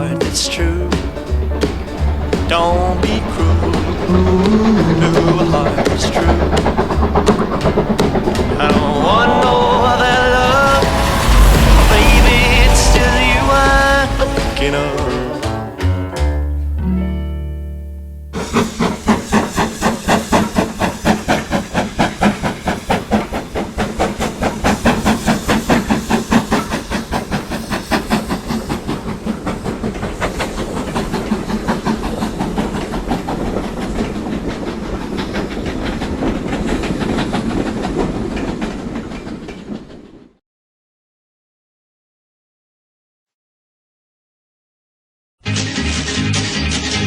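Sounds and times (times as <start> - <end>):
steam locomotive chuffing: 0.0 - 16.6, 18.4 - 40.4.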